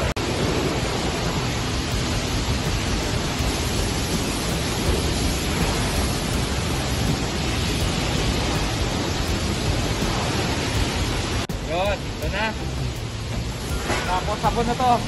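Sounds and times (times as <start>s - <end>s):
spray wand water hissing: 0.0s - 15.0s.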